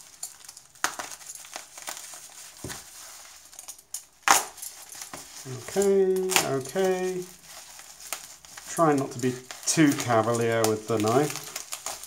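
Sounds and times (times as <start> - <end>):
bubble wrap crinkling: 0.0 - 12.0
sharp crackles: 0.0 - 12.0.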